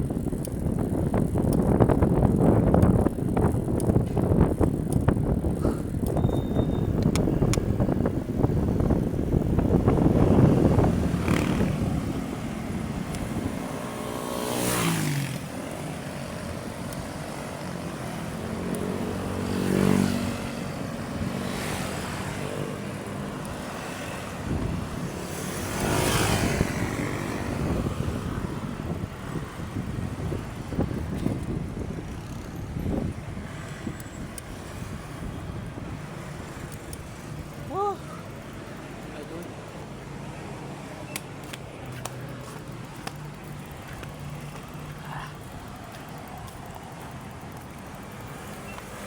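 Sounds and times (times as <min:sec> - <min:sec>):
vehicles passing: 0:00.0 - 0:49.0.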